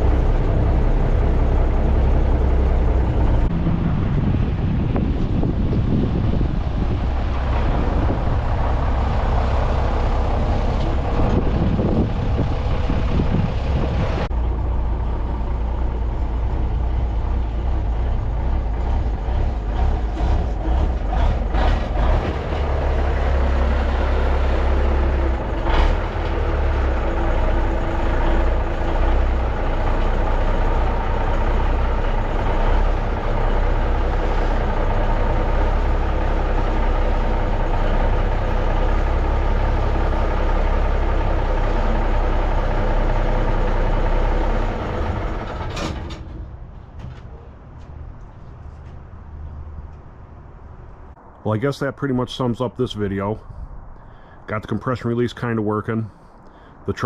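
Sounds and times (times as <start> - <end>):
diesel truck engine droning: 0.0 - 57.0.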